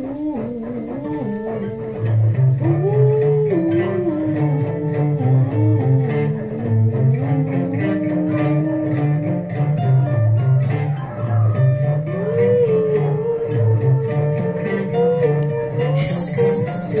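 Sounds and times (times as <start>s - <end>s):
picked guitar melody: 0.0s - 17.0s.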